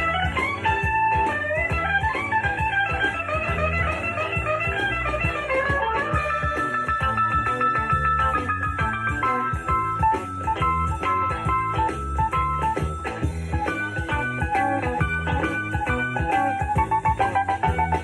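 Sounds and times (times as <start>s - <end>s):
bass: 0.0s - 18.0s
lead guitar melody: 0.0s - 18.0s
steady drum beat: 0.0s - 18.0s.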